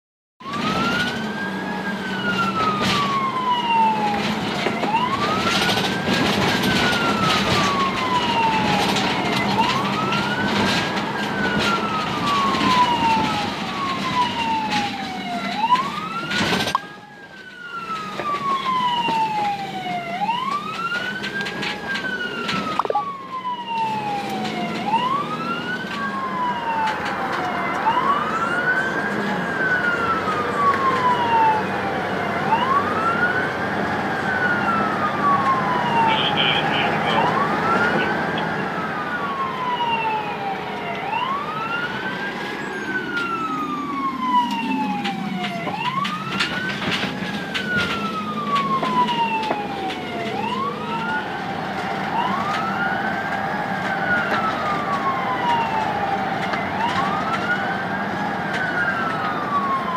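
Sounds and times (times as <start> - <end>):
ambulance siren wailing: 0.4 - 59.9.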